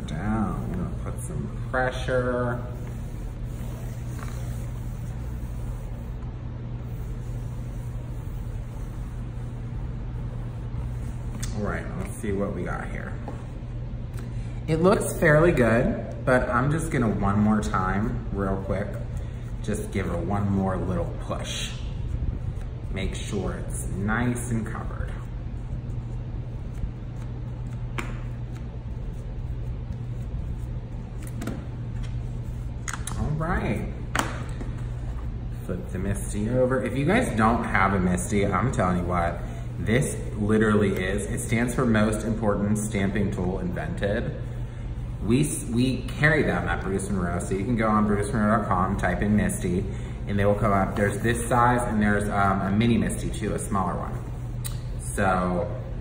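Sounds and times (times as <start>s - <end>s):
low background hum: 0.0s - 56.0s.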